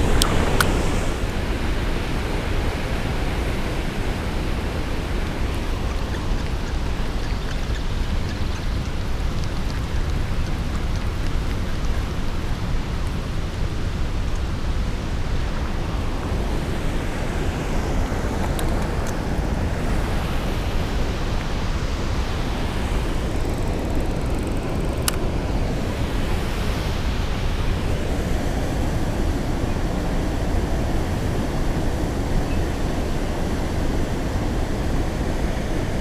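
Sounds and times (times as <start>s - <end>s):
water rushing over spillway: 0.0s - 36.0s.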